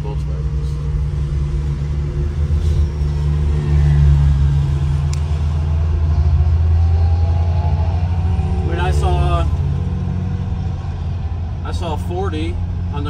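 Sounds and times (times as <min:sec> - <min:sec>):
engine and road noise in cab: 0:00.0 - 0:13.0.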